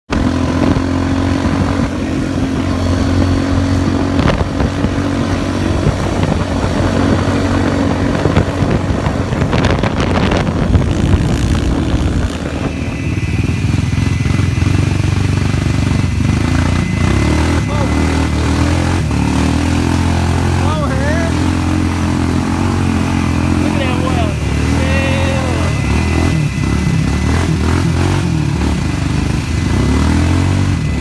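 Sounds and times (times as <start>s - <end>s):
atv engine running: 0.1s - 31.0s
thin high whine: 1.0s - 31.0s.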